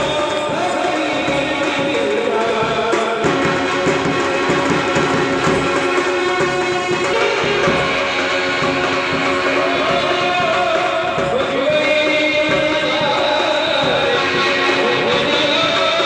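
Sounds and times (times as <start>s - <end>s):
music with singing: 0.0s - 16.0s
plucked string instruments: 0.0s - 16.0s.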